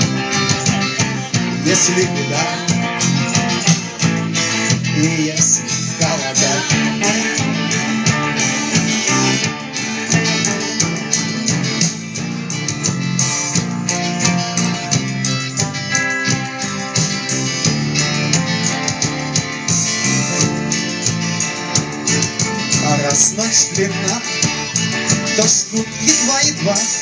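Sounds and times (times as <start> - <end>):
rock song with strummed guitar: 0.0 - 27.0.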